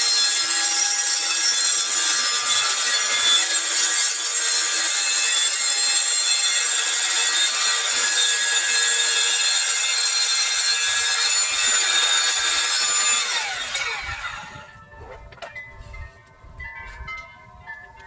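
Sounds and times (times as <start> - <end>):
power tool cutting panel: 0.0 - 14.7.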